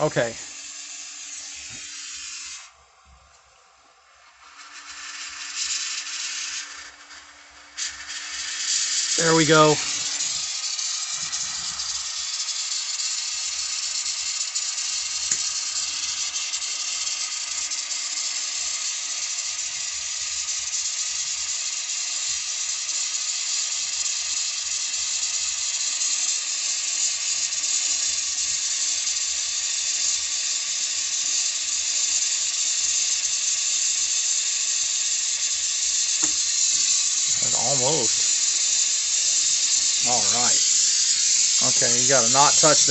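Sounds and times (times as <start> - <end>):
torch flame hissing: 0.0 - 2.8, 4.3 - 42.9.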